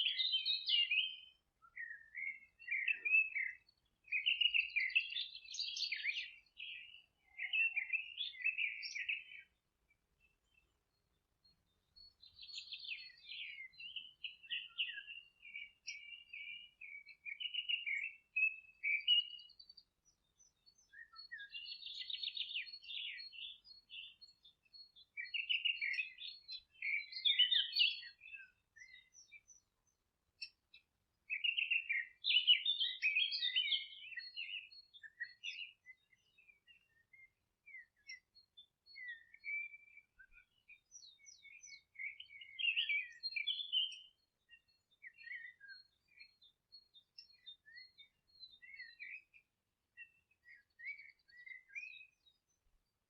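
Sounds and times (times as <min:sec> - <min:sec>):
songbirds twittering and trilling: 0:00.0 - 0:53.0.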